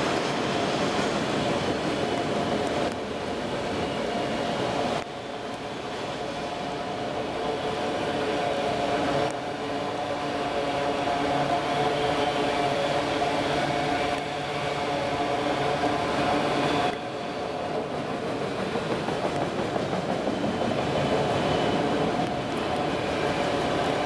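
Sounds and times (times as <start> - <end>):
train wheels rolling on rail: 0.0 - 24.0.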